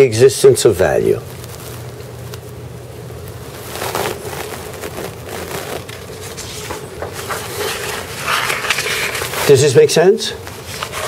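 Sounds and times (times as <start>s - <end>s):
soft rustling and handling: 0.8s - 11.0s.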